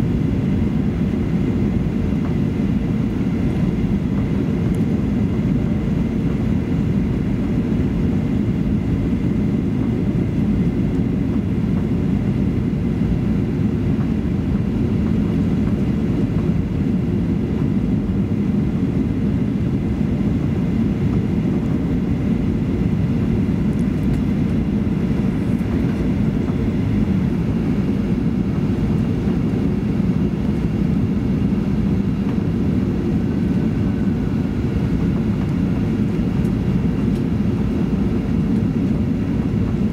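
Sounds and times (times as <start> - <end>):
aircraft engine rumble and airflow: 0.0 - 39.9.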